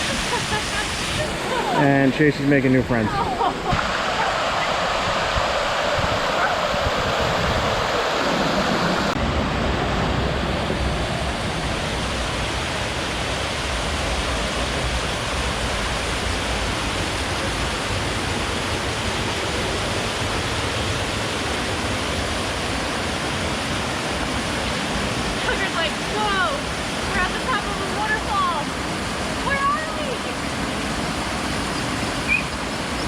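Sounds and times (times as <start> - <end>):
waterfall rushing water: 0.0 - 33.0.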